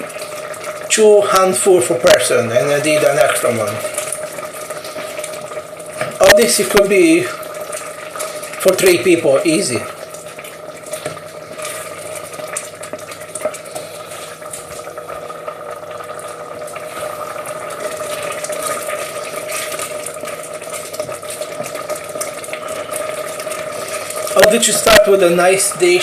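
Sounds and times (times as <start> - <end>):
pan bubbling and simmering: 0.0 - 26.0.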